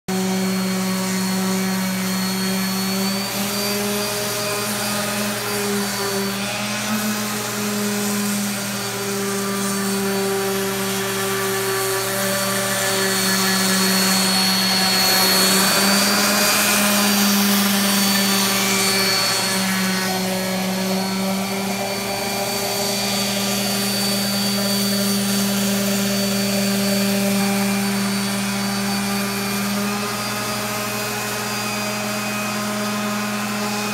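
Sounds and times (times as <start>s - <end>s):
motor humming: 0.2s - 31.0s.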